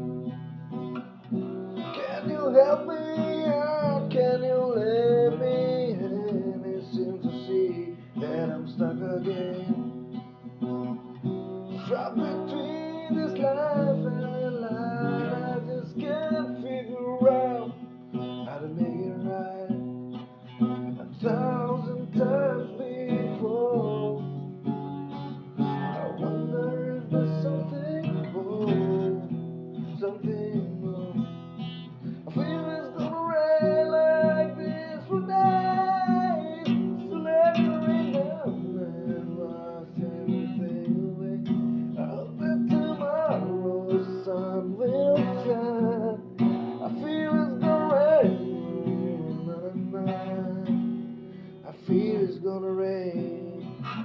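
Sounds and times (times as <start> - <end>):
acoustic guitar strumming: 0.0 - 54.0
person singing a slow ballad: 1.8 - 10.2, 11.7 - 24.5, 25.5 - 54.0.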